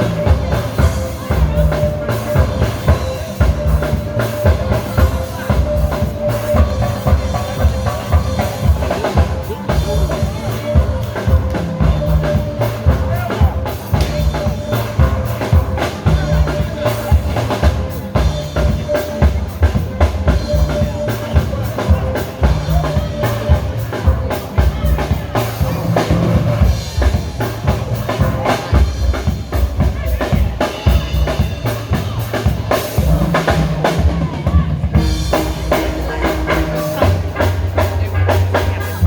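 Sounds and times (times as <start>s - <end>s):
drum kit steady beat: 0.0s - 39.0s.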